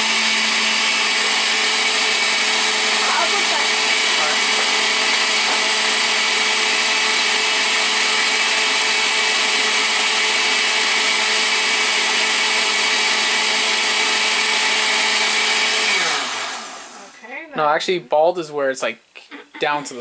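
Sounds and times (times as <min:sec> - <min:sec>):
countertop blender running: 0:00.0 - 0:17.7.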